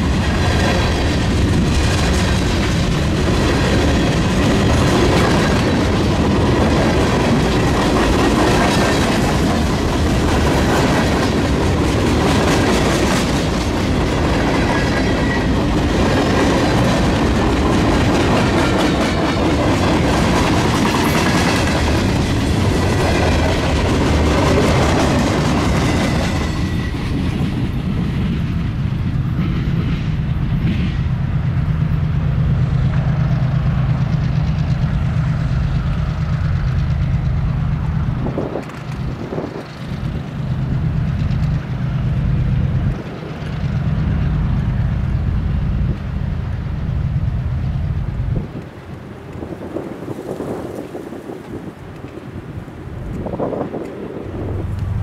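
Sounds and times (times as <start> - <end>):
rail cars wheels clattering: 0.0 - 55.0.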